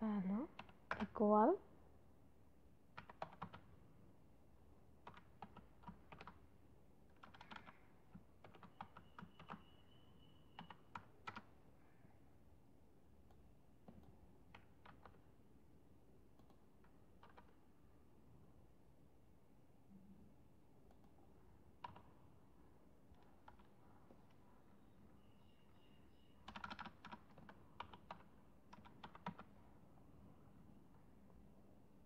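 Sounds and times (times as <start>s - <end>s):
faint keyboard typing: 0.2s - 1.6s, 2.8s - 3.9s, 4.6s - 12.5s, 13.1s - 18.4s, 20.0s - 32.0s.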